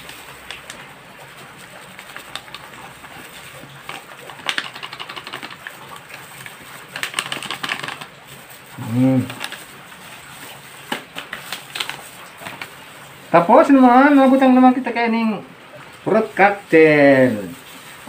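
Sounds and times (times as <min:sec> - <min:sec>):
plastic gloves and pouch crinkling: 0:00.0 - 0:15.0, 0:16.0 - 0:18.0.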